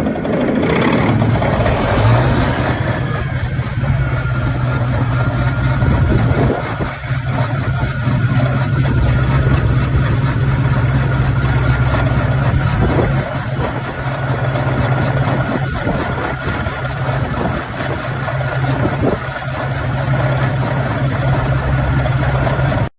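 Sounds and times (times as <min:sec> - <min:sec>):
diesel engine humming: 0:00.0 - 0:22.9.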